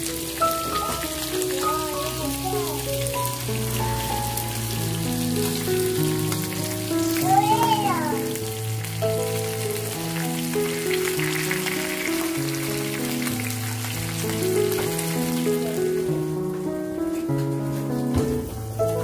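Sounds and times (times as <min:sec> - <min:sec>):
instrumental music: 0:00.0 - 0:19.0
oil sizzling in a frying pan: 0:00.0 - 0:19.0.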